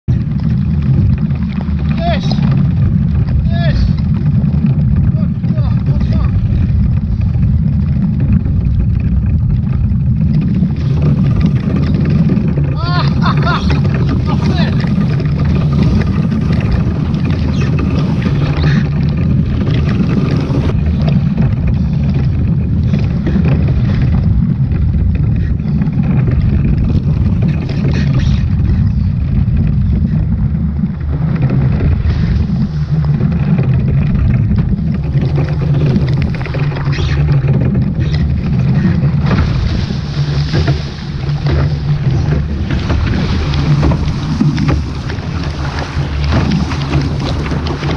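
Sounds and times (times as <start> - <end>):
water rushing along hull: 0.0 - 47.9
wind noise on microphone: 0.0 - 47.9.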